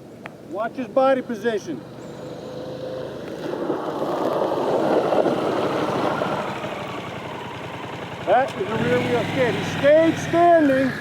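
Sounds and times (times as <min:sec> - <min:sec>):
motorcycle tyre skidding on dirt: 0:01.8 - 0:11.0.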